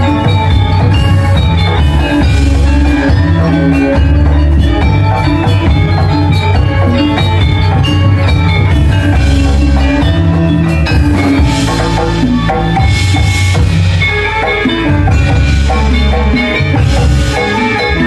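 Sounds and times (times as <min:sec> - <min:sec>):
drumming: 0:00.0 - 0:18.0
gamelan playing: 0:00.0 - 0:18.0.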